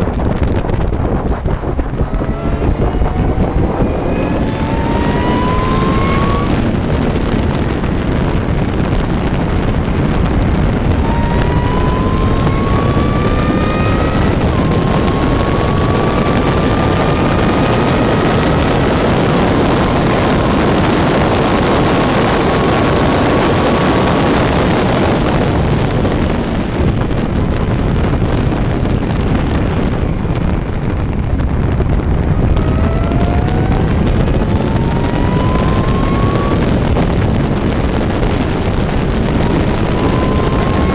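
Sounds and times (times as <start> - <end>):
race engine accelerating: 0.0 - 40.9
wind rush: 0.0 - 40.9.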